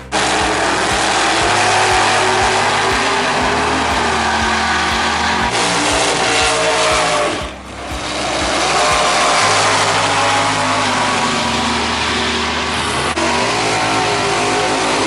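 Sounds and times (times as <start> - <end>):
drag racing car engines: 0.0 - 15.0.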